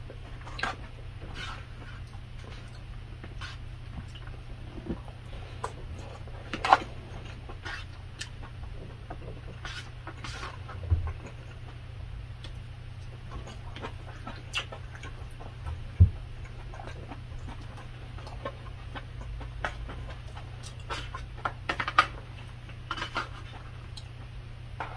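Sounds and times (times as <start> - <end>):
chewing and wet mouth noises: 0.0 - 24.3.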